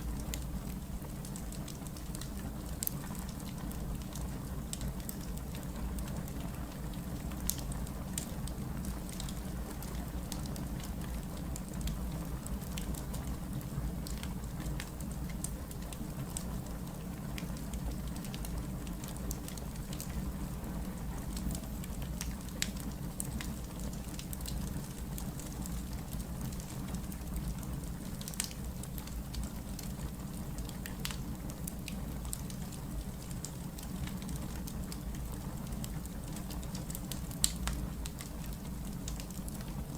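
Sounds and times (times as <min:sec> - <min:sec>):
firewood crackling and popping: 0:00.1 - 0:39.9.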